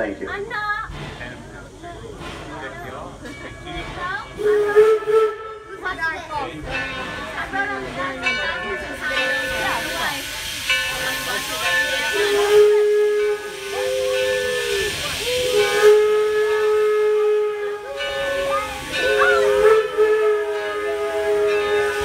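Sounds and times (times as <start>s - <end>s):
steam locomotive getting under way: 0.0s - 22.0s
steam hissing: 0.1s - 22.0s
long steady tones: 1.8s - 22.0s.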